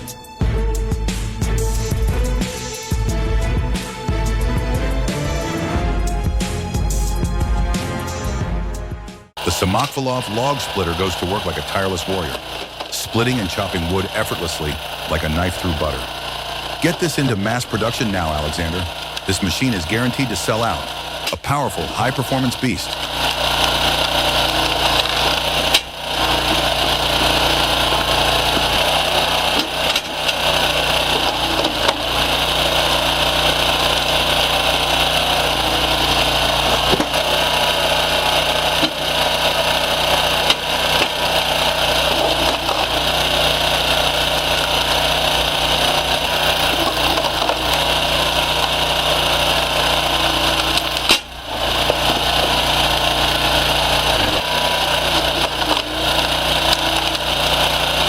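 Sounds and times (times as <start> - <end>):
wood-processing machinery running: 0.0 - 58.0.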